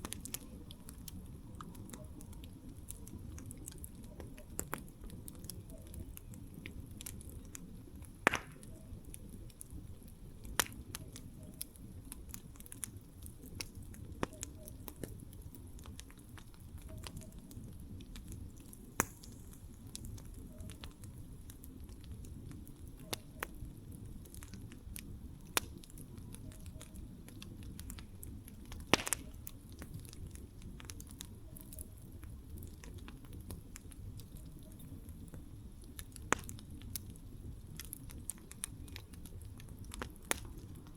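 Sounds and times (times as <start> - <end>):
campfire flames rumbling: 0.0 - 40.9
fire popping and crackling: 0.0 - 40.9.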